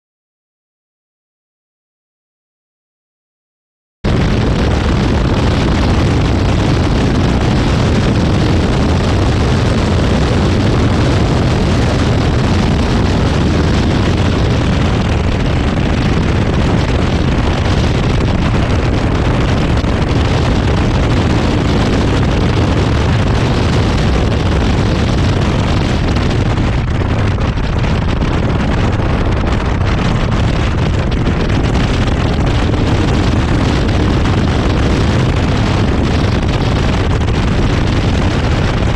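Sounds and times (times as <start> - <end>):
car engine running: 4.1 - 38.9
wind buffeting microphone: 4.1 - 38.9.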